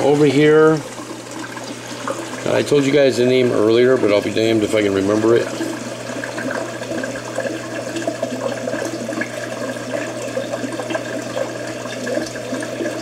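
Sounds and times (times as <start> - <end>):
air bubbling in water: 0.0 - 13.0.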